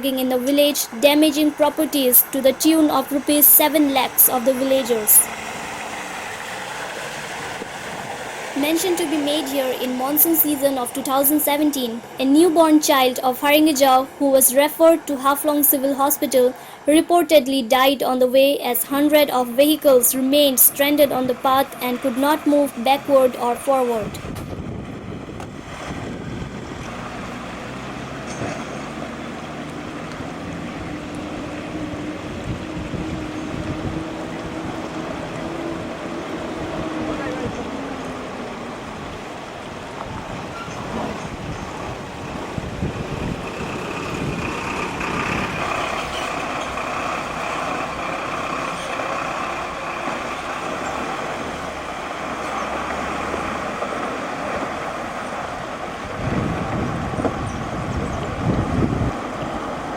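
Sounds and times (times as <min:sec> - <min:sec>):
vehicle engine running: 0:00.0 - 0:39.4, 0:41.0 - 0:59.9
road and wind noise: 0:00.0 - 0:59.9.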